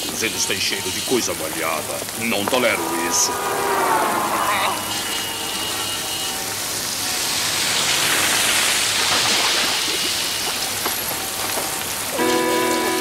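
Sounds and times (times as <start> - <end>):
heavy rain on street: 0.0 - 13.0.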